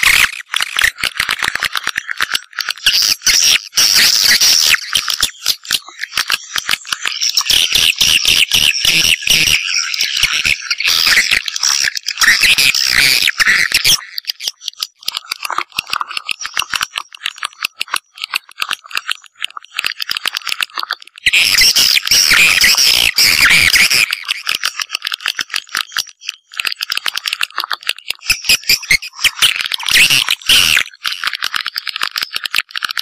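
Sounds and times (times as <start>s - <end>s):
swiftlets twittering and clicking: 0.0s - 33.0s.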